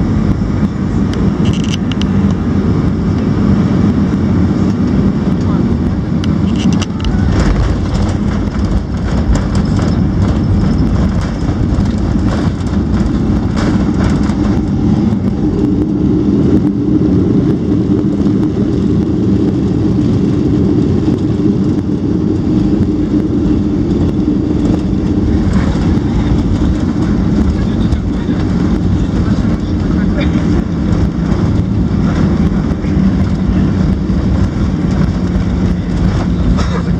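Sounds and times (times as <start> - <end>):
jet engine rumble in cabin: 0.0 - 36.9.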